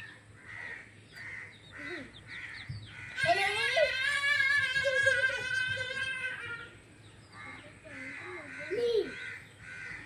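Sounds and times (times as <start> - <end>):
birds calling: 0.0 - 10.0
loud long bird call: 0.0 - 10.0.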